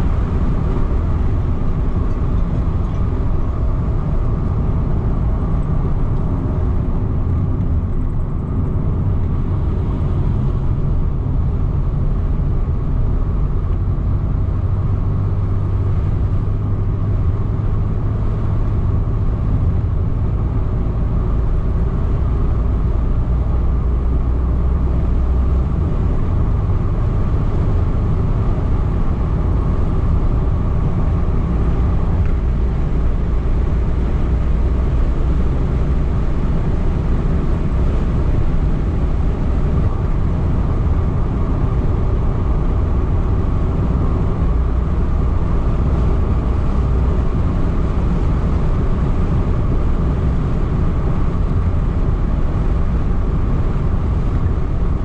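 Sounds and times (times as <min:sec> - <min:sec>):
car cabin road drone: 0:00.0 - 0:55.0.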